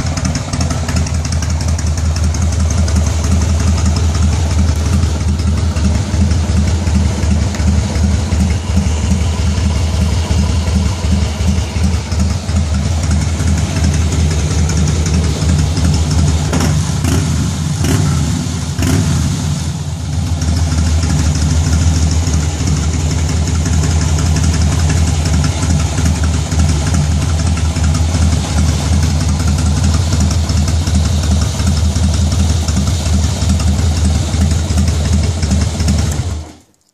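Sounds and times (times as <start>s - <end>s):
motorcycle engine idling: 0.0s - 36.6s.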